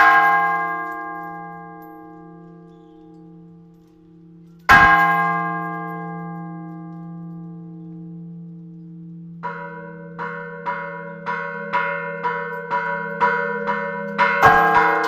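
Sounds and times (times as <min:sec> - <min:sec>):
large bell humming: 0:00.0 - 0:15.0.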